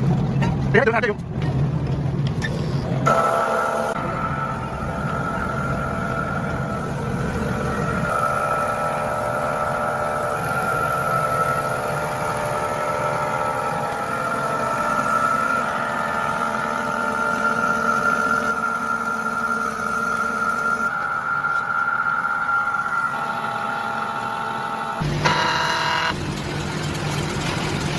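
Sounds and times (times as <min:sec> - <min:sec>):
low motor hum: 0:00.0 - 0:27.9
machinery high whine: 0:02.3 - 0:27.9.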